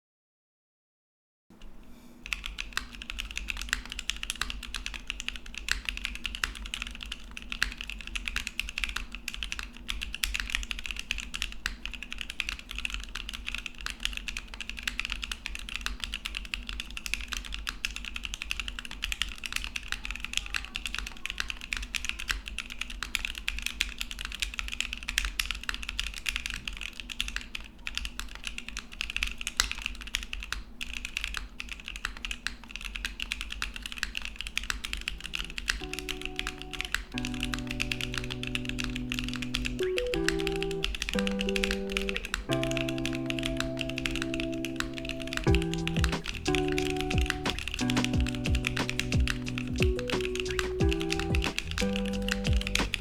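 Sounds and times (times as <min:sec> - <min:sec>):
fast typing on mechanical keyboard: 0:02.2 - 0:53.0.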